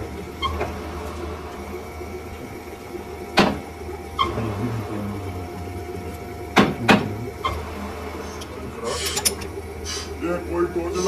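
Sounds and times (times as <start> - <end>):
machinery humming: 0.0 - 11.0.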